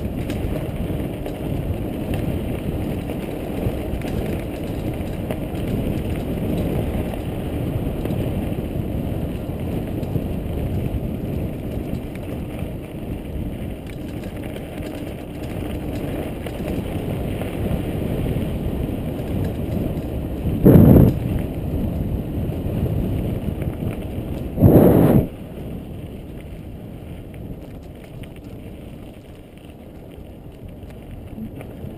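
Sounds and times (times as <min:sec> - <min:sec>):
tyres rolling over dirt track: 0:00.0 - 0:31.9
wind buffeting microphone: 0:00.0 - 0:31.9.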